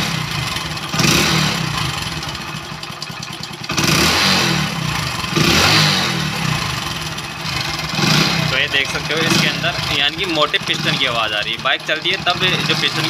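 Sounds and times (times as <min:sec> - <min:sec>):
engine rattling clatter: 0:00.0 - 0:13.0
motorcycle engine revving: 0:00.0 - 0:13.0.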